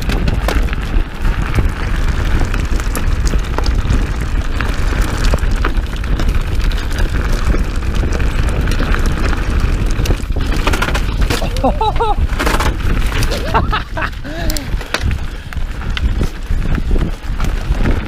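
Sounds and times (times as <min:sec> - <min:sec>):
bike rattling clicks and knocks: 0:00.0 - 0:18.0
tyres crunching over gravel: 0:00.0 - 0:18.0
wind rumble on microphone: 0:00.0 - 0:18.0.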